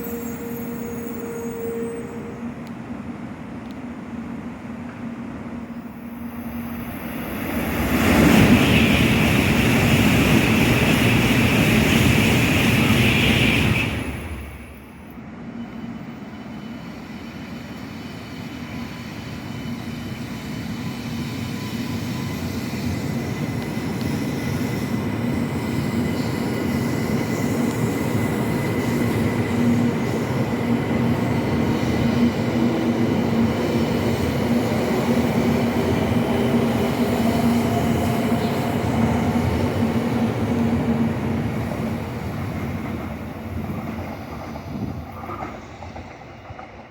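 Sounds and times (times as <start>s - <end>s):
train running hum: 0.0s - 46.9s.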